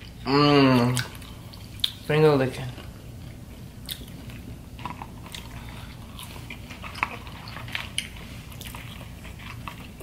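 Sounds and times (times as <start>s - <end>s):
chewing crispy food: 0.0s - 10.0s.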